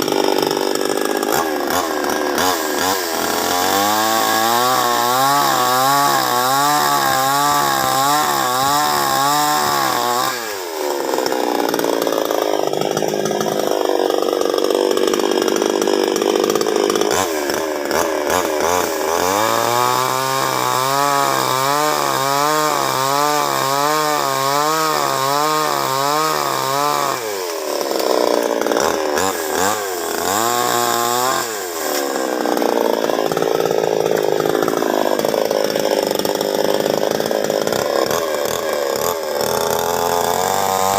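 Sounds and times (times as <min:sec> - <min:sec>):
chainsaw cutting: 0:00.0 - 0:40.9.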